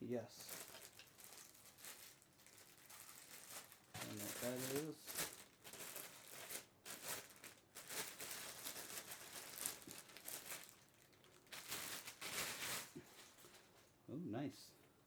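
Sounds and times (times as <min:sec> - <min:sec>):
packaging crinkling and rustling: 0:00.4 - 0:14.0.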